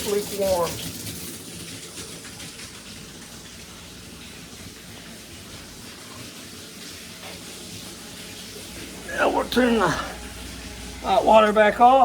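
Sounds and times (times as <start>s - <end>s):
shower water splashing: 0.0s - 12.0s.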